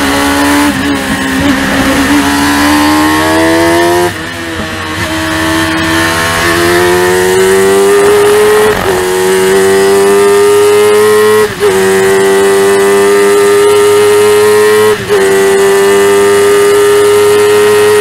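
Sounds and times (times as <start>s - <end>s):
racing car engine accelerating: 0.0s - 18.0s.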